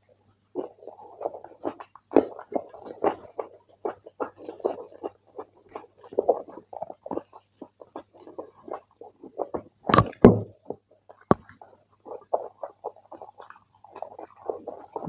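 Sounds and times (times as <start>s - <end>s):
wet chewing and lip smacking: 0.5s - 15.0s.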